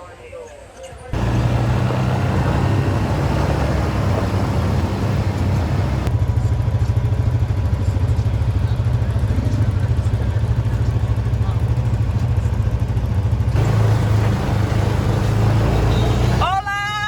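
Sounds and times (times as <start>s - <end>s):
atv engine droning: 1.2s - 16.6s.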